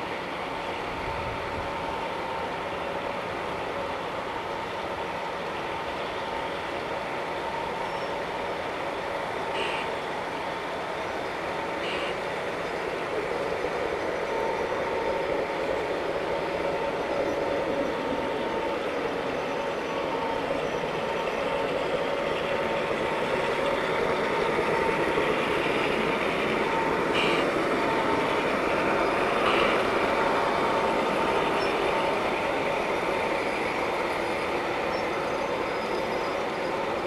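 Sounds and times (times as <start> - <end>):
model train wheels rumbling on rails: 0.0 - 37.0.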